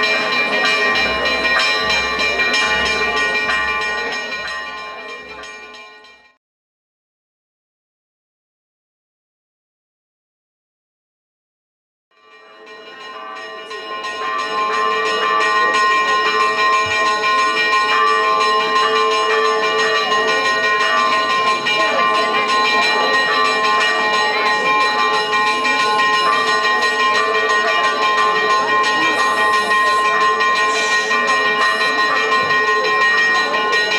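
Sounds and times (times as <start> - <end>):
church bells pealing: 0.0 - 6.4, 12.2 - 33.9.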